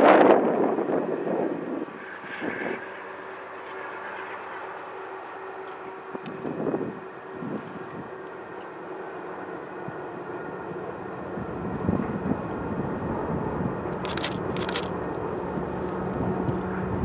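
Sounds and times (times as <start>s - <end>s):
diesel locomotive droning: 0.0s - 17.0s.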